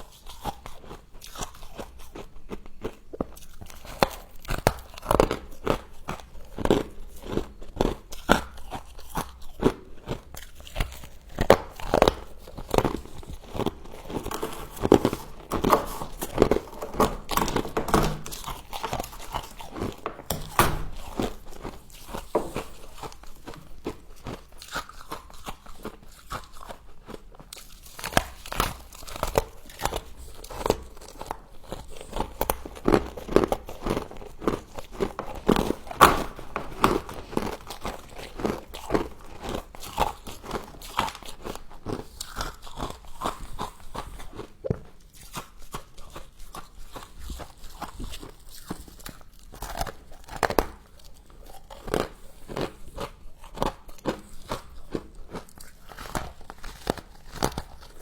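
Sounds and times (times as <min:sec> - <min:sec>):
crunching and chewing frost: 0:00.0 - 0:58.0.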